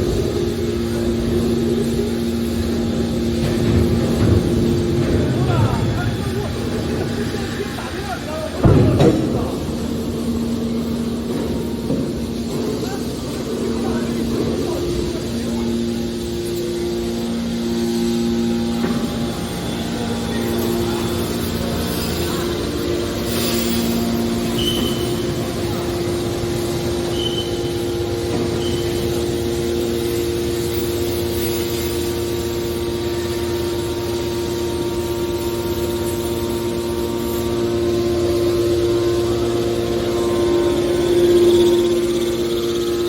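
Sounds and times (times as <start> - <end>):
baler power unit hum: 0.0 - 43.0.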